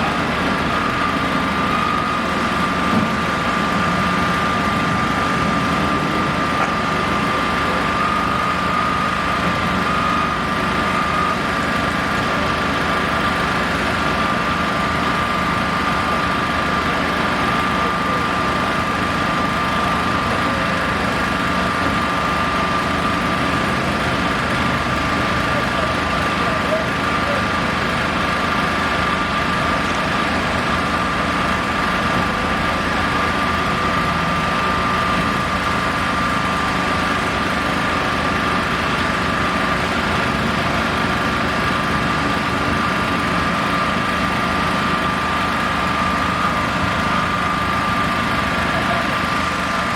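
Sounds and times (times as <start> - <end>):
heavy engine rumbling: 0.0 - 49.9.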